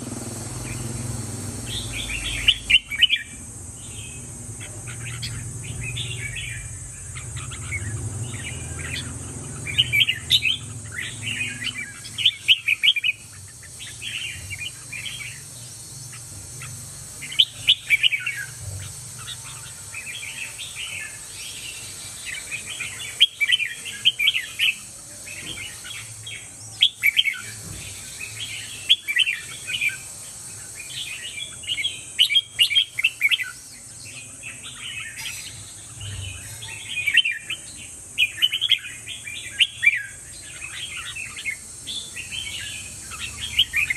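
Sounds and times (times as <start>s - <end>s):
bulbul singing warbled phrases: 0.0s - 43.9s.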